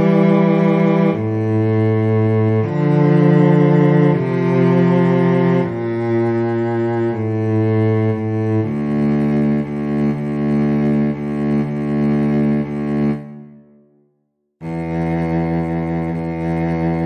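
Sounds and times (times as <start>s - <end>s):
slow low cello line: 0.0s - 17.0s.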